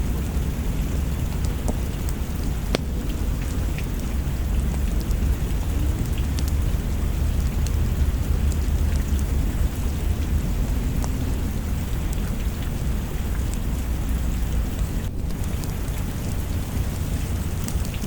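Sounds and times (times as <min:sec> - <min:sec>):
low rumble of thunder: 0:00.0 - 0:18.0
steady rain: 0:00.0 - 0:18.0.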